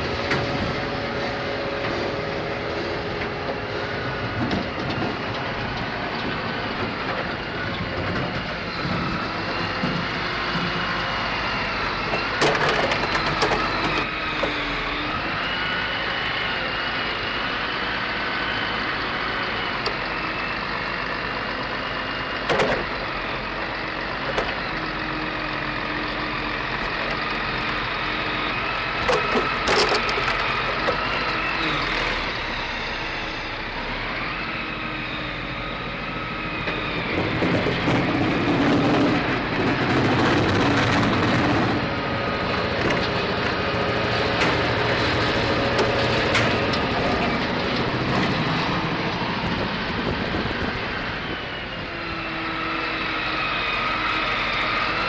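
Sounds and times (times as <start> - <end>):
hydraulic whine: 0.0 - 55.0
wood chipper engine running: 0.0 - 55.0.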